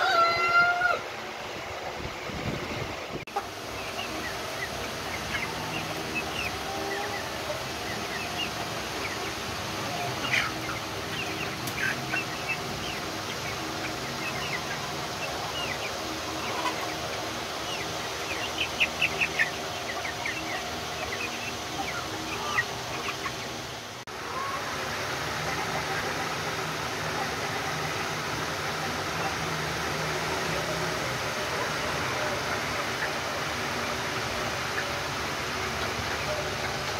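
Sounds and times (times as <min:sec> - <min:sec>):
chicks peeping and chirping: 0:00.0 - 0:36.9.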